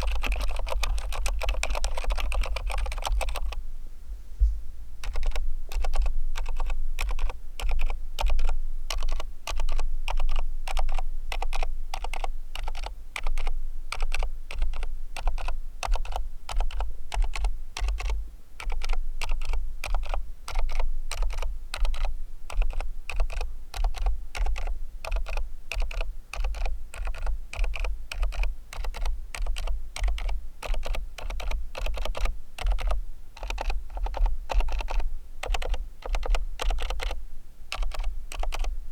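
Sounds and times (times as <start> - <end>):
mechanical keyboard typing: 0.0 - 3.6, 5.0 - 38.7.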